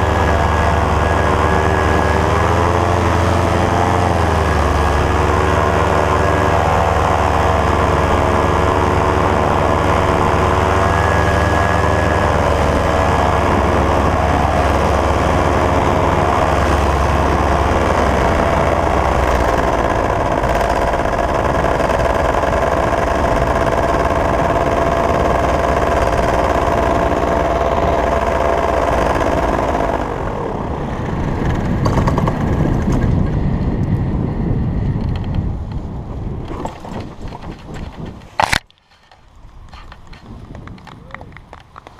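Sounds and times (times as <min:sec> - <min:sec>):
droning hum: 0:00.0 - 0:41.9
wind rumble on microphone: 0:00.0 - 0:41.9.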